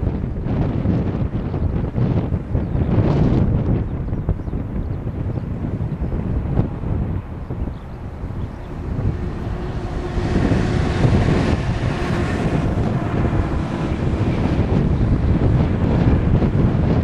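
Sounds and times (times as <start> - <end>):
jet engines roaring at takeoff: 0.0 - 17.0
wind buffeting microphone: 0.0 - 17.0.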